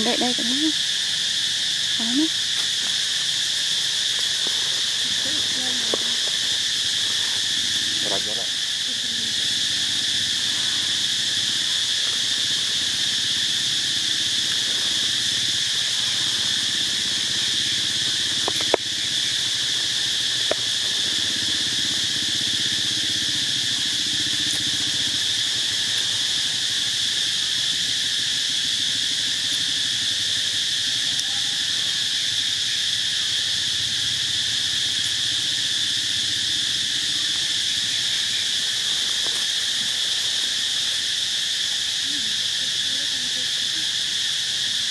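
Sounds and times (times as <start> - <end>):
insects buzzing: 0.0 - 44.9.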